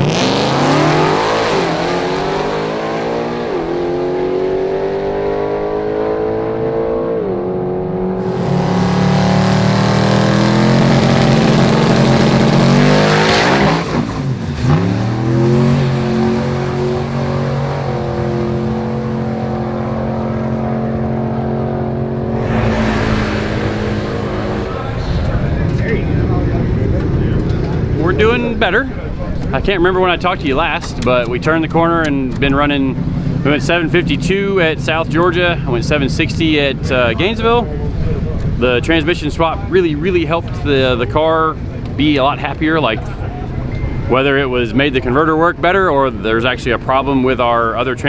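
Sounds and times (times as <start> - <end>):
race car engines revving: 0.0 - 48.0.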